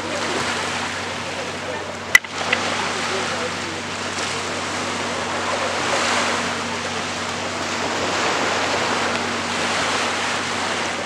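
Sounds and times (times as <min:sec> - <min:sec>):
sea surf washing on beach: 0:00.0 - 0:11.0.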